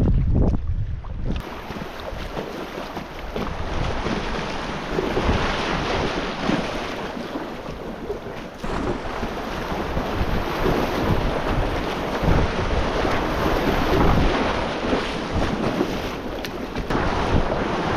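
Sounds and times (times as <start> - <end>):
wind buffeting microphone: 0.0 - 17.9
river water rushing and splashing: 1.4 - 17.9.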